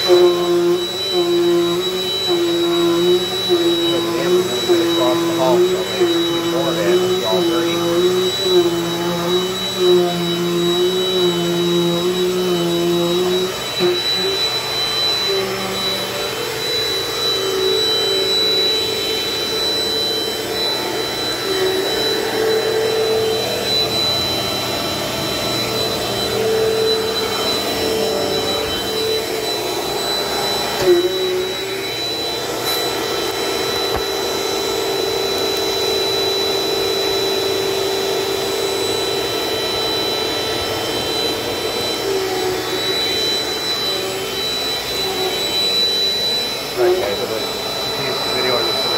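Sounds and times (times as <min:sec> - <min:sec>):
upright vacuum cleaner on carpet: 0:00.0 - 0:48.9.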